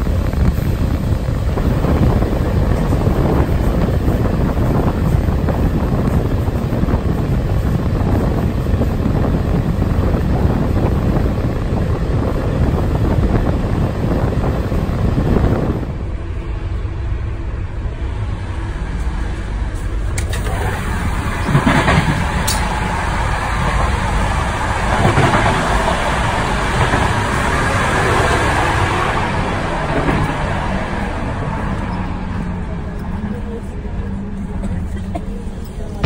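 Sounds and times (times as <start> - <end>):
train track rumble: 0.0 - 36.0
wind rushing at train window: 0.0 - 36.0.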